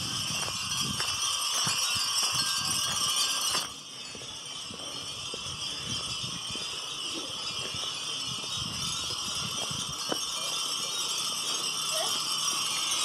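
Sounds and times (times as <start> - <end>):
glass wind chimes tinkling: 0.0 - 13.0.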